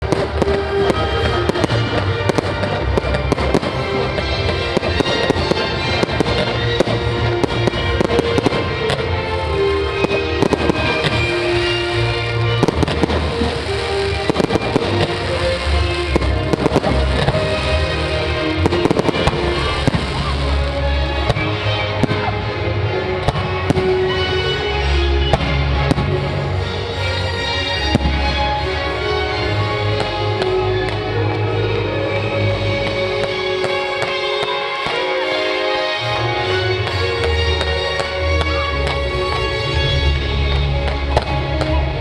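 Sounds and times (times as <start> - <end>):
background music with bass: 0.0 - 34.0, 36.0 - 42.0
fireworks bursting and crackling: 0.0 - 42.0.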